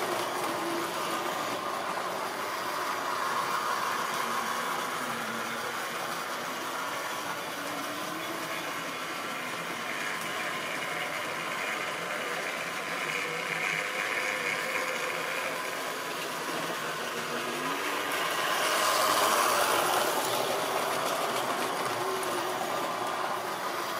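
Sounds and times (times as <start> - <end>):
model train wheels rattling on rails: 0.0 - 23.9.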